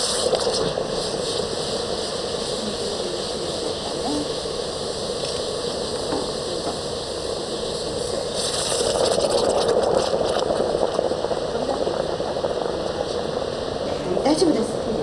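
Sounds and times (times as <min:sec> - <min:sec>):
water boiling on hot stones: 0:00.0 - 0:15.0.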